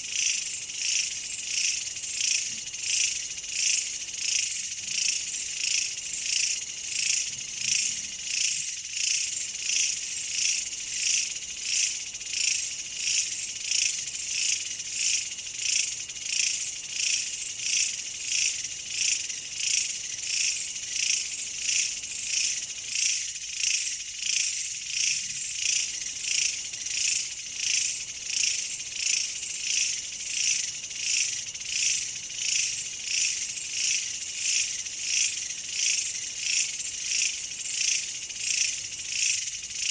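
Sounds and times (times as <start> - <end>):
insects calling in pulses: 0.0 - 39.9.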